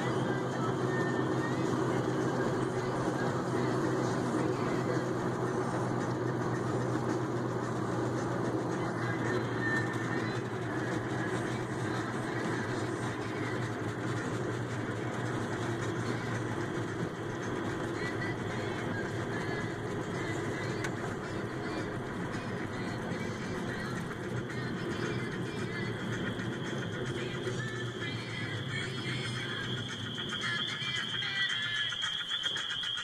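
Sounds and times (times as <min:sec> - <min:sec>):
low hum: 0:00.0 - 0:33.0
vehicle engine and road noise: 0:00.0 - 0:33.0.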